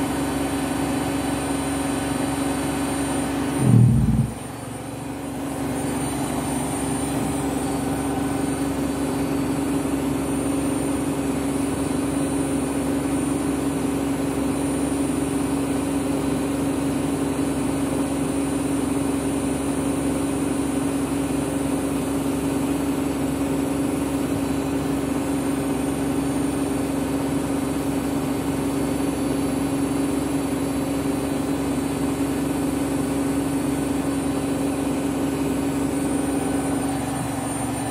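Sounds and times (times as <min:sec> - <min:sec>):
washing machine spinning: 0:00.0 - 0:37.9.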